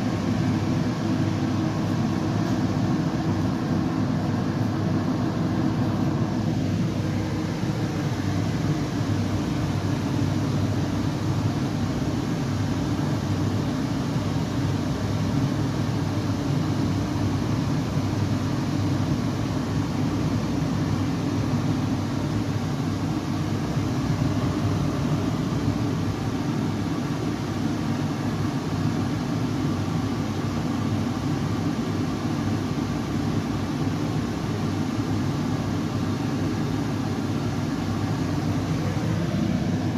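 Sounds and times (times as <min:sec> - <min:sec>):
deep rumbling white noise: 0:00.0 - 0:39.9.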